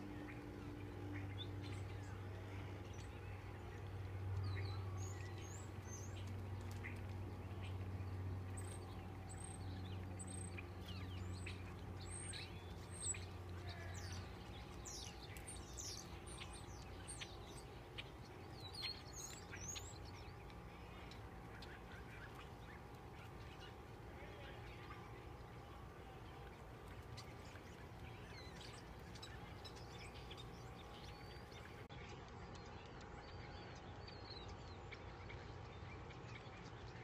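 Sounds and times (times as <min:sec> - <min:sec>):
flock of small birds chirping: 0:00.0 - 0:37.0
low steady hum: 0:00.0 - 0:37.0.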